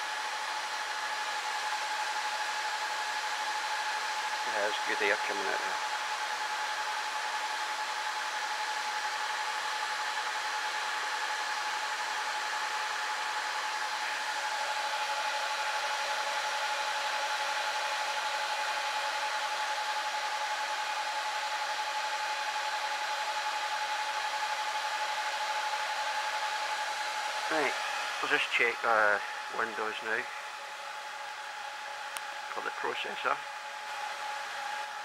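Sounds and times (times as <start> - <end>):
server cooling fans blowing: 0.0 - 35.0.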